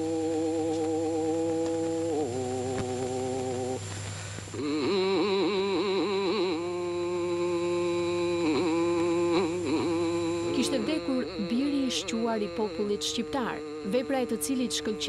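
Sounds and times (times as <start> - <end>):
slow melody of long held notes: 0.0 - 15.0.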